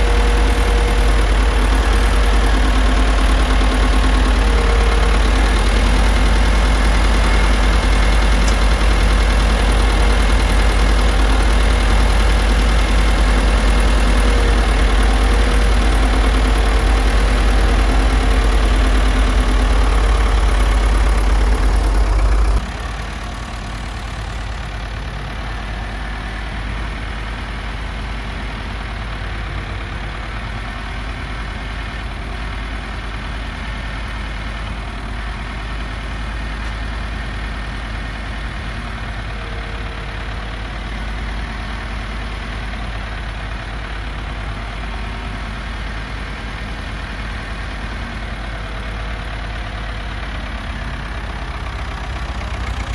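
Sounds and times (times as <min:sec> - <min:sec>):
vehicle engine rumbling: 0:00.0 - 0:52.9.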